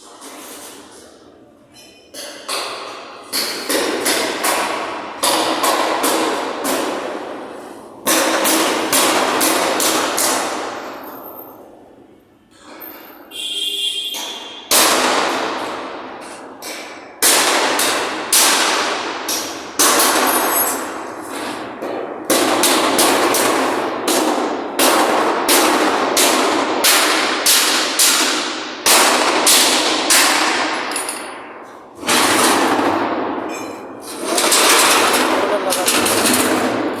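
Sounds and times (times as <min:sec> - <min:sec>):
hammer clanging on sheet metal: 0:01.8 - 0:11.1, 0:14.1 - 0:37.0.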